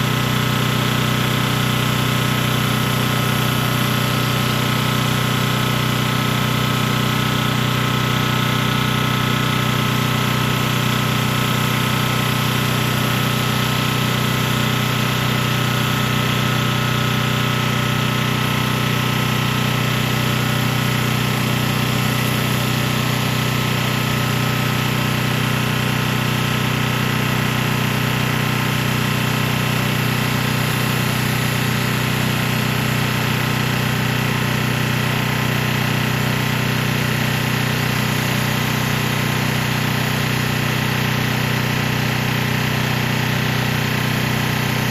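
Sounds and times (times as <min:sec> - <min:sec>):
pressure washer engine hum: 0:00.0 - 0:44.9.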